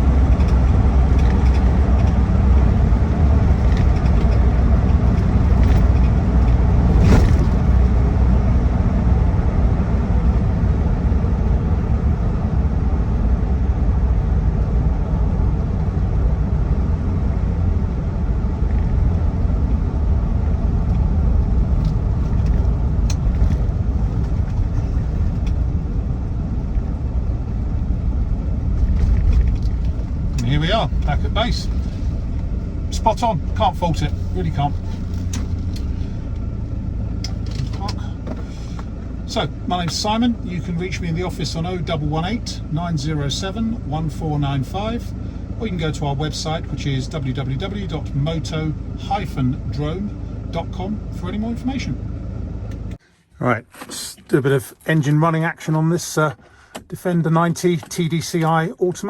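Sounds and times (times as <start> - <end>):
diesel engine drone: 0.0 - 58.7
road noise: 0.0 - 59.0.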